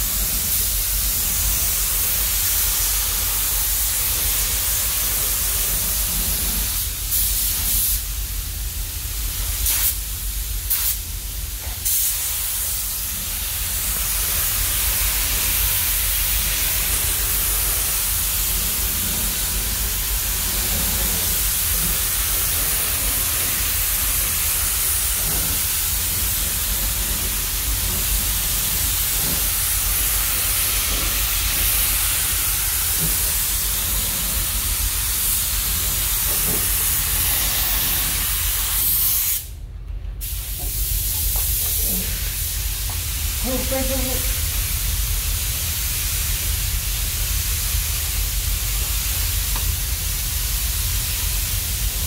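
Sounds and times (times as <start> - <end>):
paint spray gun hissing: 0.0 - 8.0, 9.5 - 10.0, 10.7 - 11.0, 11.6 - 39.5, 40.2 - 52.0.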